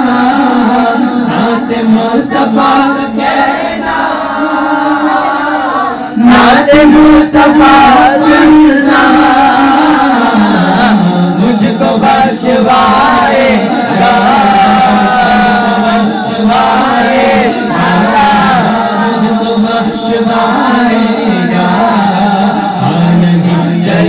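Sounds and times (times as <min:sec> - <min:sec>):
men singing unaccompanied: 0:00.0 - 0:24.0.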